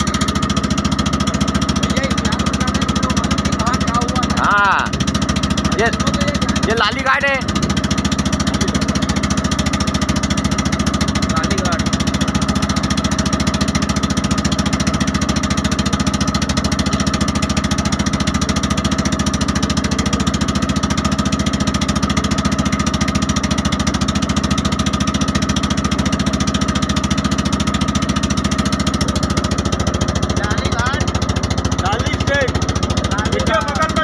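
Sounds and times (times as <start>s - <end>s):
boat engine chugging: 0.0s - 34.0s.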